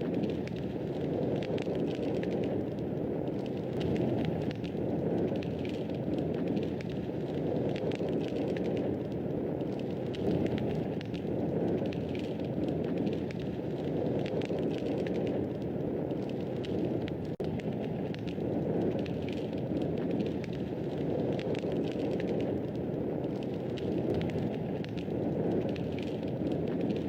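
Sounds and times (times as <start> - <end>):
fire crackling and popping: 0.0 - 27.0
low rush of flames: 0.0 - 27.0.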